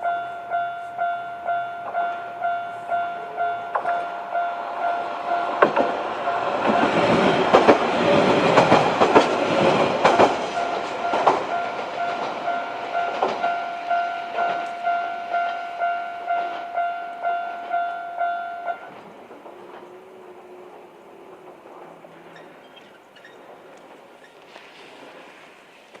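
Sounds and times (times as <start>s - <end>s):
level-crossing warning bell: 0.0s - 23.5s
diesel railcar passing: 0.0s - 26.0s
wheels clicking over rail joints: 0.8s - 26.0s.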